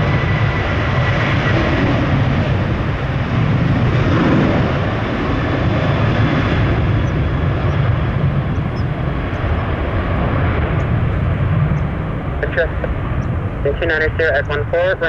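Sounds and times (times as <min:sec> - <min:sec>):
jet airliner engine rushing: 0:00.0 - 0:15.0.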